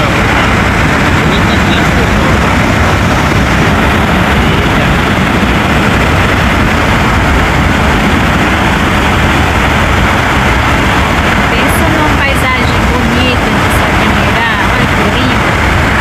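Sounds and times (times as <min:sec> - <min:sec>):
car engine running: 0:00.0 - 0:16.0
road and wind noise: 0:00.0 - 0:16.0.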